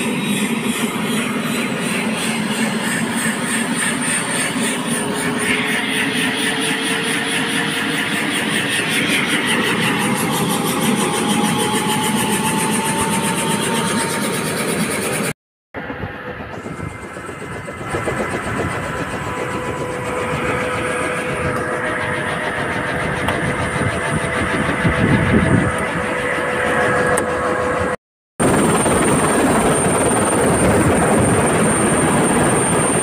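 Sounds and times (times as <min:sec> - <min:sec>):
helicopter engine running: 0:00.0 - 0:33.0.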